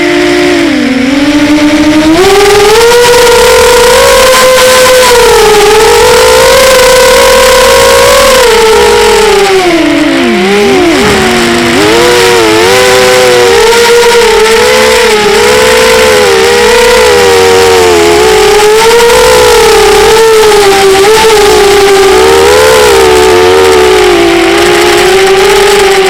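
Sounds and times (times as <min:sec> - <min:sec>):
model airplane engines running: 0:00.0 - 0:26.0.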